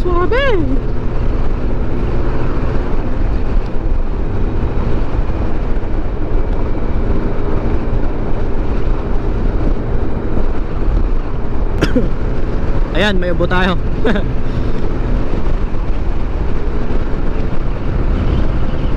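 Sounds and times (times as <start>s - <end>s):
scooter engine cruising: 0.0s - 18.9s
wind noise on microphone: 0.0s - 18.9s.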